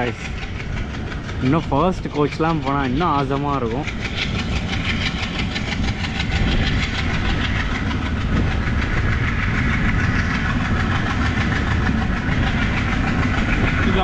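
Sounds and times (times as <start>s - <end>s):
diesel locomotive engine running: 0.0s - 14.0s
train wheels clattering on rails: 0.0s - 14.0s
wind rush: 0.0s - 14.0s.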